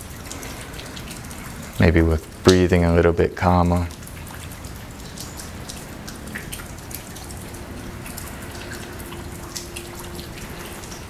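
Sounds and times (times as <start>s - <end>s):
hiss of rain: 0.0s - 11.0s
rain drops ticking: 0.0s - 11.0s.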